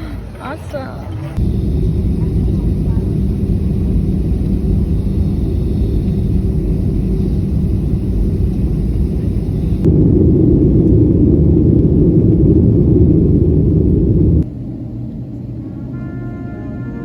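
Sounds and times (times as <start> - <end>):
airliner cabin rumble: 1.3 - 17.0.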